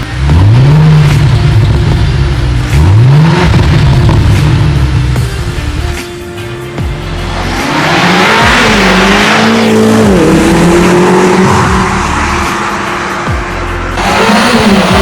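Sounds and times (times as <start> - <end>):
car engine accelerating: 0.0 - 6.0, 6.8 - 15.0.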